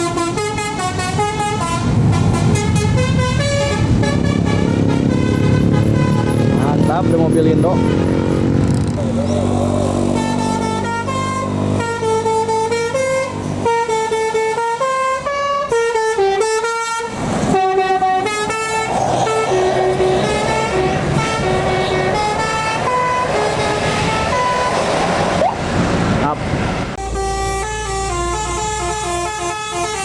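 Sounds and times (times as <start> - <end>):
bus horn playing a melody: 0.0 - 25.4, 27.0 - 30.0
bus engine running: 0.0 - 30.0
road noise: 0.0 - 30.0.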